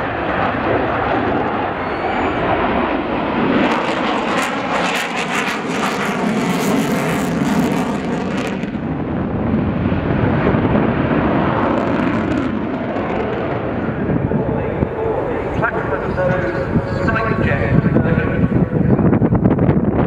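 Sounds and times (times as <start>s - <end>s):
jet engines at afterburner: 0.0s - 20.0s.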